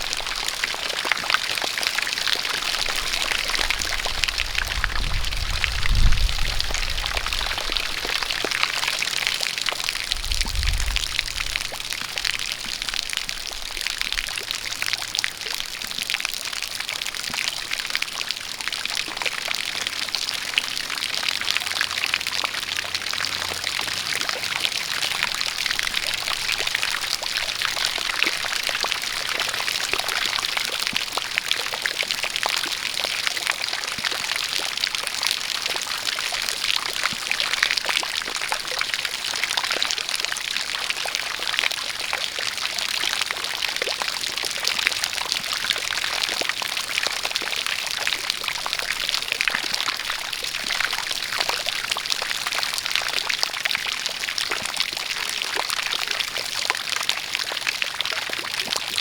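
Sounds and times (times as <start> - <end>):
rain falling: 0.0 - 59.0
water pouring from a spout: 0.0 - 59.0.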